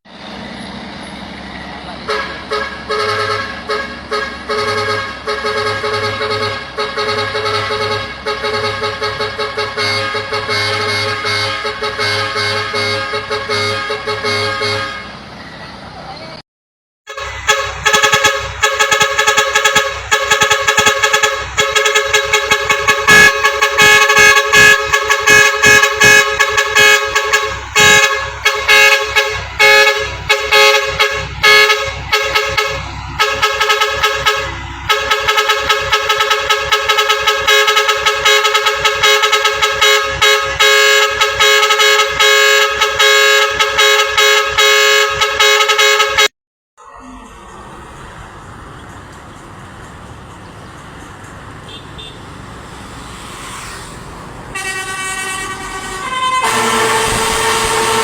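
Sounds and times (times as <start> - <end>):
trumpet air horns pulsing: 2.0 - 15.2, 17.1 - 48.2, 50.8 - 58.0.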